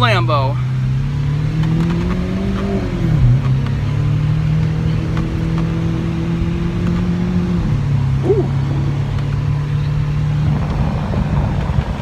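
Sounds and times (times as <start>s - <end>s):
car engine humming from inside: 0.0s - 12.0s.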